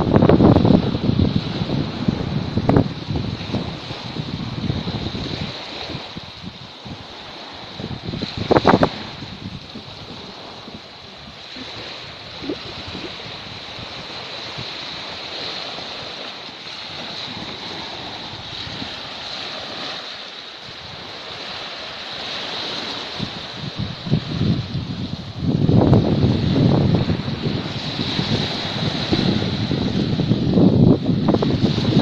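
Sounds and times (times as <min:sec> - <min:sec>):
small waves washing on sand: 0:00.0 - 0:32.0
wind buffeting microphone: 0:00.0 - 0:32.0.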